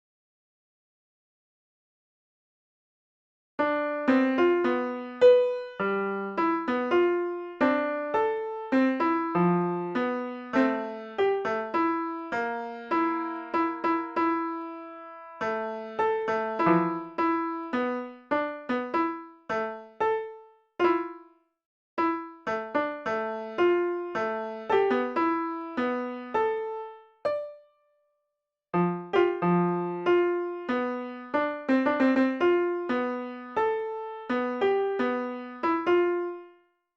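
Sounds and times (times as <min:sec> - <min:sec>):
piano-toned keyboard melody: 0:03.6 - 0:21.3, 0:22.0 - 0:27.8, 0:28.8 - 0:36.6.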